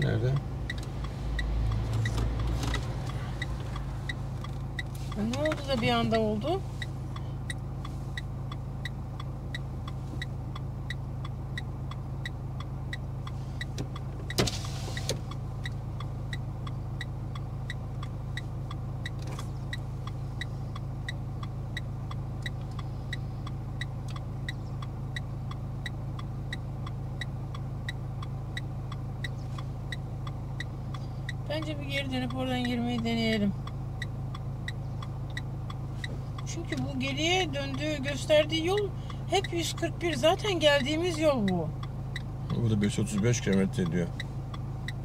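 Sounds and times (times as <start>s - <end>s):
car engine humming: 0.0s - 45.0s
indicator relay ticking: 0.0s - 45.0s.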